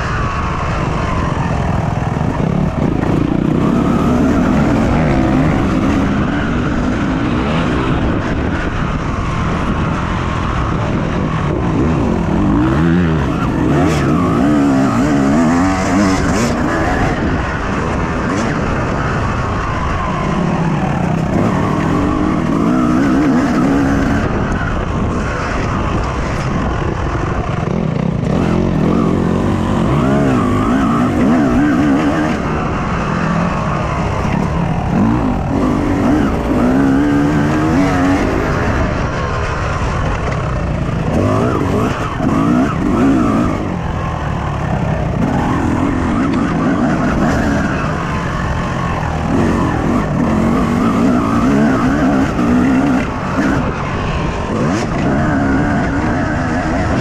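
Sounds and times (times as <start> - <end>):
motocross bike engine revving: 0.0 - 57.0
wind and dirt noise: 0.0 - 57.0.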